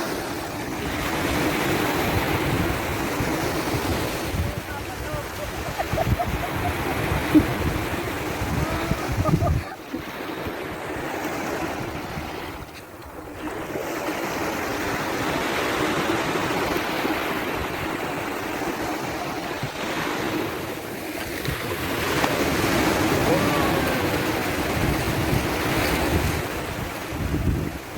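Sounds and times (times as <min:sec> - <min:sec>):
surf washing onto beach: 0:00.0 - 0:27.9
wind buffeting microphone: 0:00.0 - 0:27.9.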